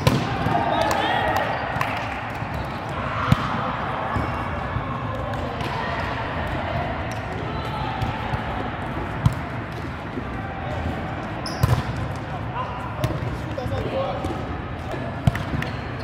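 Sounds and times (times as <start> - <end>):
court noise: 0.0 - 16.0.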